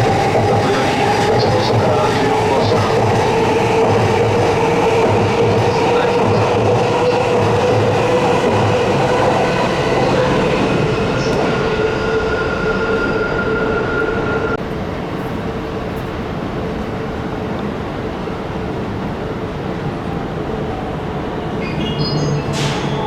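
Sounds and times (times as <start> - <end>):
electric train running on rails: 0.0 - 23.0.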